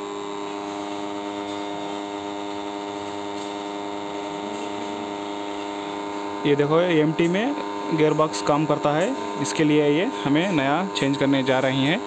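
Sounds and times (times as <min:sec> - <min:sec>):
fan motor electrical buzz: 0:00.0 - 0:12.0.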